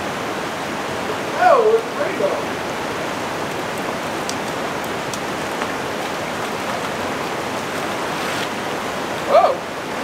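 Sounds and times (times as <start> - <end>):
creek flowing over rocks: 0.0 - 10.0.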